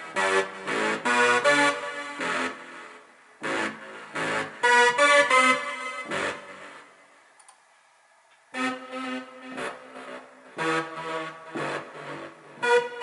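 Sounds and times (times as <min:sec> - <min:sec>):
synth chords and notes: 0:00.0 - 0:07.4, 0:08.5 - 0:13.0.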